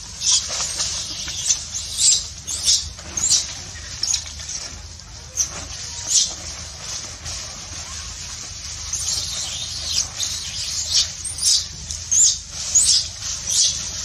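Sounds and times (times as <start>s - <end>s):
dry leaves crackling and rustling: 0.0s - 14.0s.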